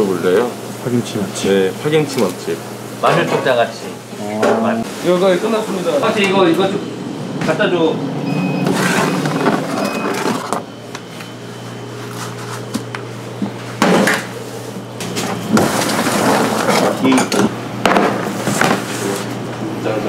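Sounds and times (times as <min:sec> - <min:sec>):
steady low hum: 0:03.6 - 0:20.0.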